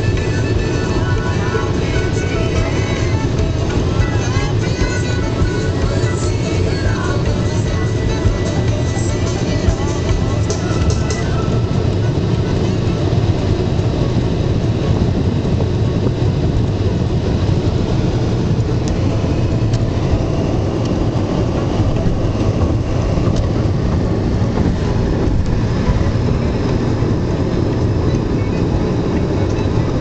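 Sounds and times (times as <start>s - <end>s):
car driving road noise: 0.0s - 30.0s.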